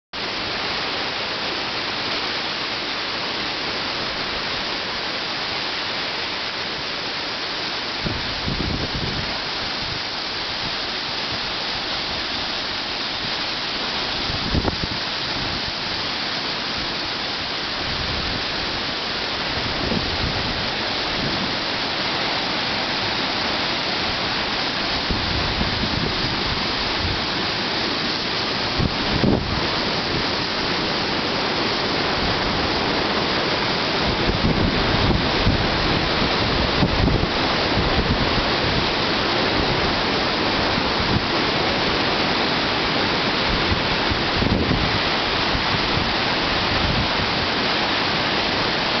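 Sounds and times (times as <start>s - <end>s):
waterfall rushing: 0.2s - 49.0s.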